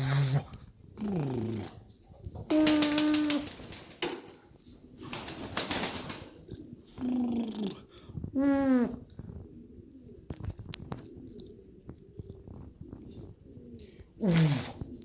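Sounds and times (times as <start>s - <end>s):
pigeons cooing: 0.9s - 15.0s.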